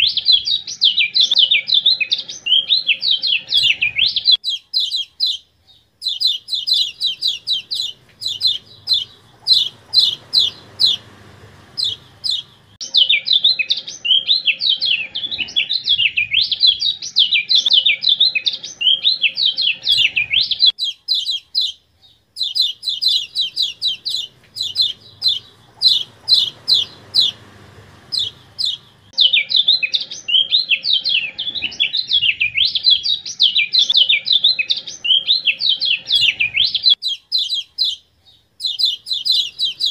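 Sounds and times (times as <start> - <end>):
bird chips and twittering warble: 0.0 - 39.9.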